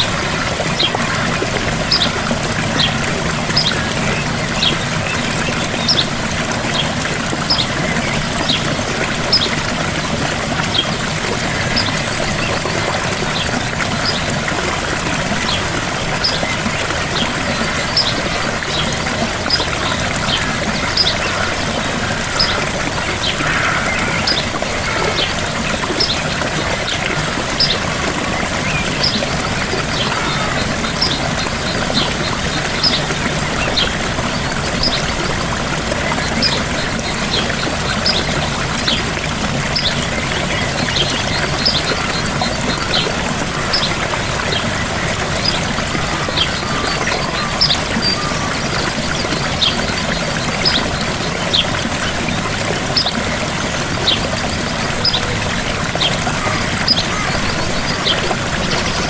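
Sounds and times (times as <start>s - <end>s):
waterfall rushing and splashing: 0.0s - 59.0s.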